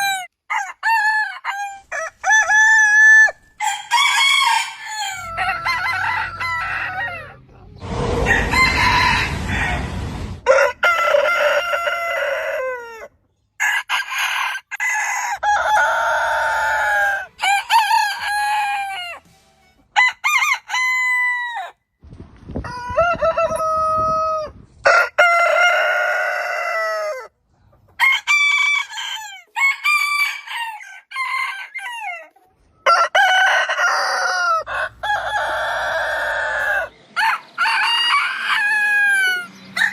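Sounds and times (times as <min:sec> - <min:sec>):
roosters crowing: 0:00.0 - 0:19.4, 0:20.0 - 0:21.8, 0:22.6 - 0:27.3, 0:28.0 - 0:39.9.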